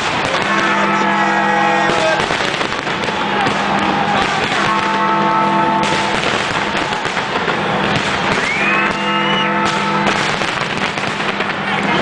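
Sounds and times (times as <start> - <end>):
fireworks bursting and crackling: 0.0 - 12.0
rising firework whistle: 0.4 - 11.2.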